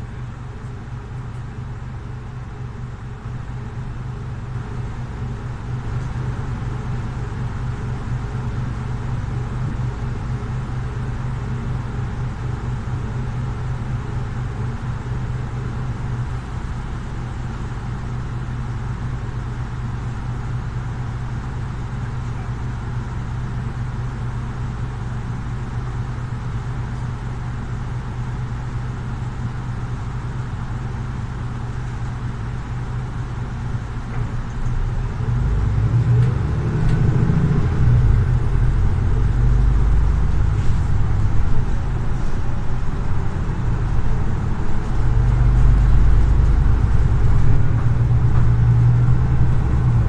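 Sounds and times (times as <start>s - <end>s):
bus engine hum from inside: 0.0s - 50.0s.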